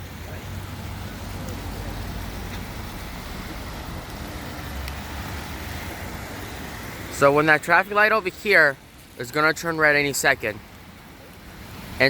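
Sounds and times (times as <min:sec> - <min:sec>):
rain: 0:00.0 - 0:12.0
traffic on wet road: 0:00.0 - 0:12.0.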